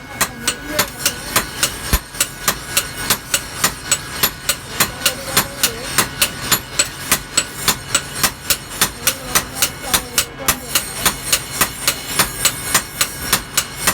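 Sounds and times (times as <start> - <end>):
hammer striking metal anvil: 0.1 - 13.9.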